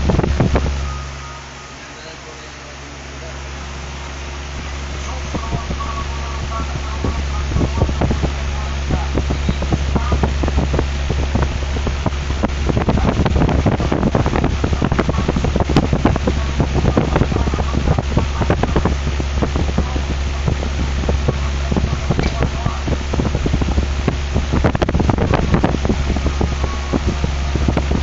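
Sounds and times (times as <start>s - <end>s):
fan airflow buffeting microphone: 0.0s - 28.0s
steady low hum: 0.0s - 28.0s.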